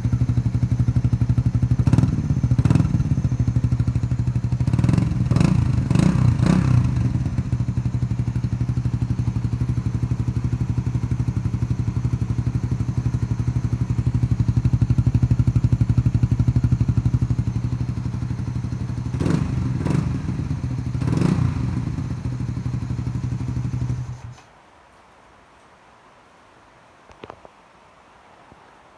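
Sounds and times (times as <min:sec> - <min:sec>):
motorcycle engine idling and revving: 0:00.0 - 0:24.4.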